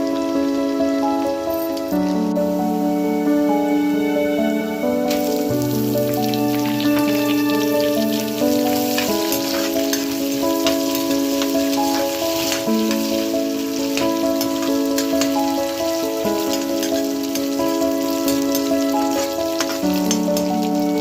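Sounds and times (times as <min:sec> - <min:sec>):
vegetables sizzling in a pan: 0:00.0 - 0:03.0, 0:05.0 - 0:21.0
background music of held notes: 0:00.0 - 0:21.0.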